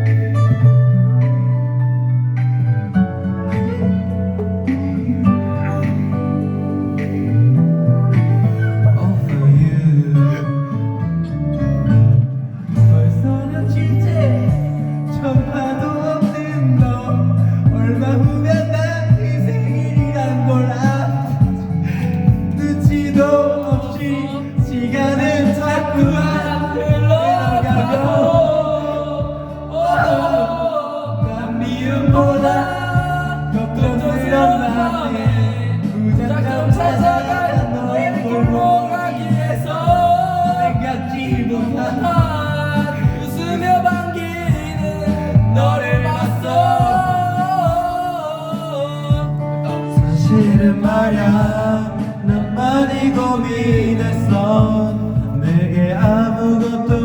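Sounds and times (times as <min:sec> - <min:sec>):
karaoke backing track: 0:00.0 - 0:57.0
men singing into microphones: 0:03.7 - 0:10.9, 0:12.6 - 0:57.0.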